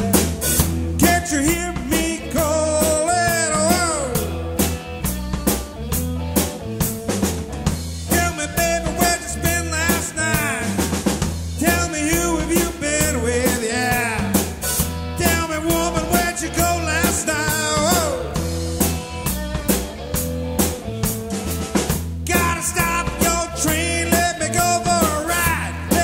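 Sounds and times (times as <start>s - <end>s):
bass line: 0.0s - 26.0s
drum kit beat: 0.0s - 26.0s.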